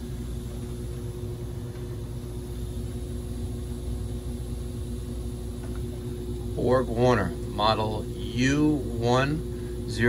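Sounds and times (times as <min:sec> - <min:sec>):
gas furnace running: 0:00.0 - 0:10.0.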